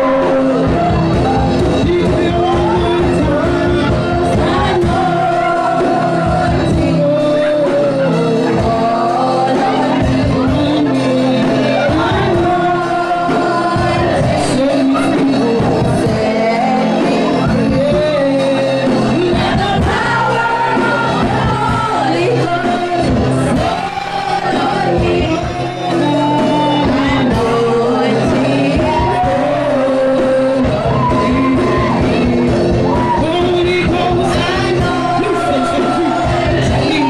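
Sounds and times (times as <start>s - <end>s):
instrumental backing: 0.0s - 37.0s
people singing worship: 0.0s - 37.0s.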